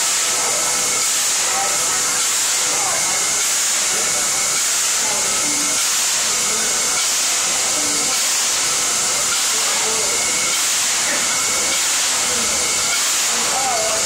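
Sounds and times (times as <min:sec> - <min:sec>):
steam hissing from locomotive: 0:00.0 - 0:14.0.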